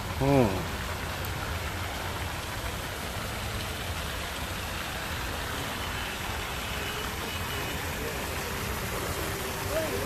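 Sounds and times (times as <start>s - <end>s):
falling water hiss: 0.0s - 10.0s.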